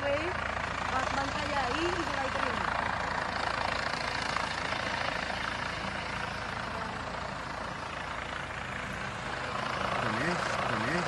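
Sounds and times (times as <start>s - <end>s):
helicopter flying low: 0.0s - 11.0s
speedboat engines: 0.0s - 11.0s.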